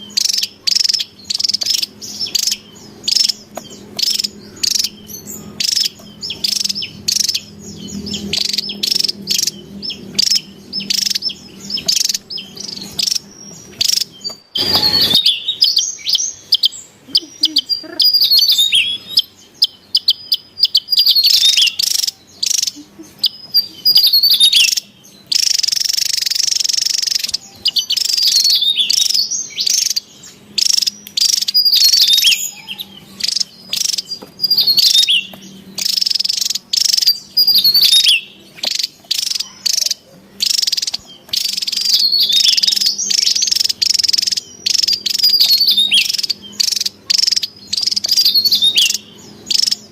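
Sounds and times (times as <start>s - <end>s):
bird chirps and trills: 0.0s - 49.9s.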